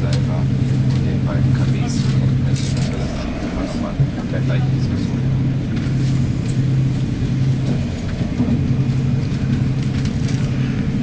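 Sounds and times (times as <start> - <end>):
low hum: 0.0 - 11.0
train interior rumble: 0.0 - 11.0.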